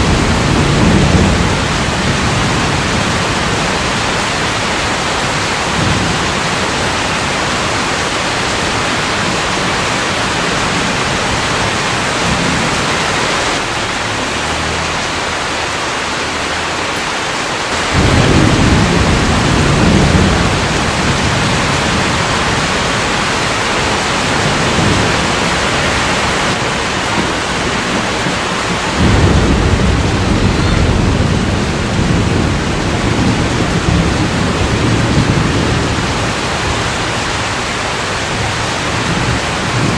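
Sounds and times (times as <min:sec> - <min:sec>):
thunder rumbling: 0:00.0 - 0:15.0, 0:17.7 - 0:39.9
heavy rain: 0:00.0 - 0:39.9.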